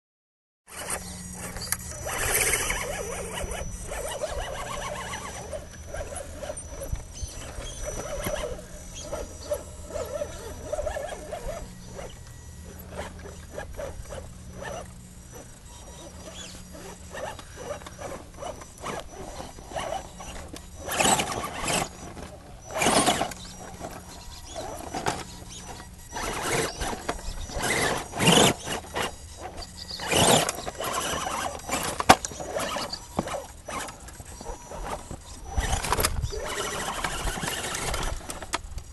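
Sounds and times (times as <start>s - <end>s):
toy car electric motor whining: 0.7s - 38.9s.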